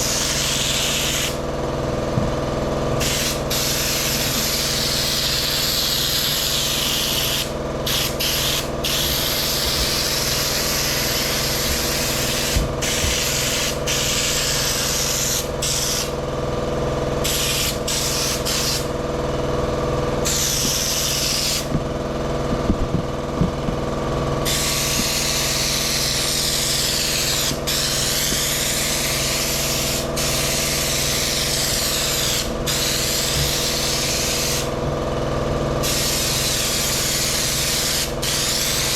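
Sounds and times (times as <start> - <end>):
air spray gun hissing: 0.0 - 1.5, 3.0 - 16.2, 17.2 - 19.0, 20.2 - 21.9, 24.4 - 34.8, 35.8 - 38.9
steady mechanical hum: 0.0 - 38.9.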